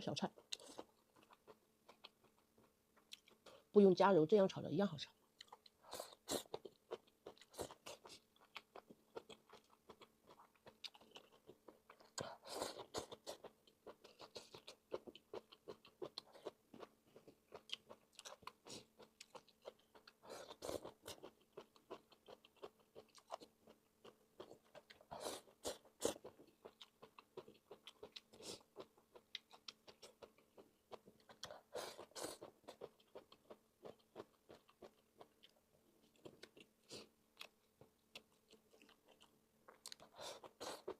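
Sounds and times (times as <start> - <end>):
wet mouth clicks chewing: 0.4 - 3.5, 5.4 - 40.9.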